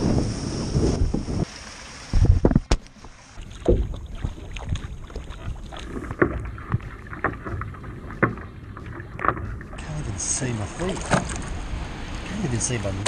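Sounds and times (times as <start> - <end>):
wind and rushing water: 0.0 - 13.0
kayak paddle dipping in water: 1.4 - 12.5.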